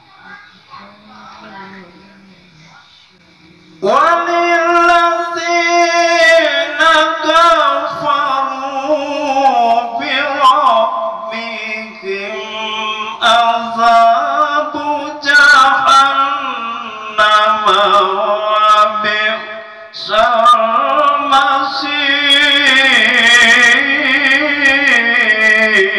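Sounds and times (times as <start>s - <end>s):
person chanting melodically: 0.0s - 25.9s.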